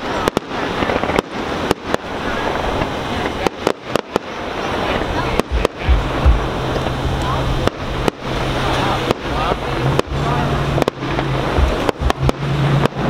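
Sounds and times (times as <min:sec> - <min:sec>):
deep firework booms: 0:00.0 - 0:13.0
firework shells bursting and crackling: 0:00.0 - 0:13.0
sharp firework bangs: 0:00.0 - 0:13.0.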